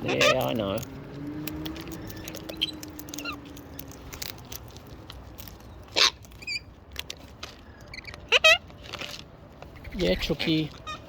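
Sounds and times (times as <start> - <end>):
beaks clicking and tapping seed: 0.2 - 9.8.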